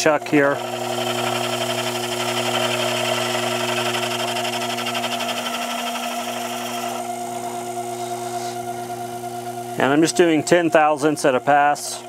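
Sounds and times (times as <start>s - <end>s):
lathe motor whine: 0.0s - 12.0s.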